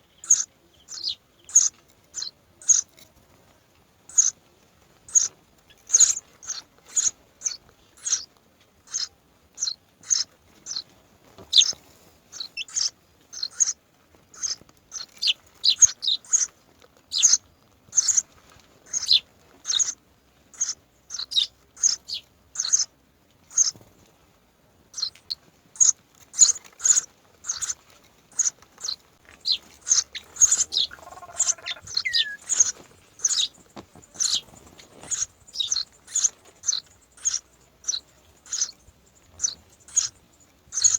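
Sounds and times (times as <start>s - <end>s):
myna birds chirping: 0.0s - 40.9s.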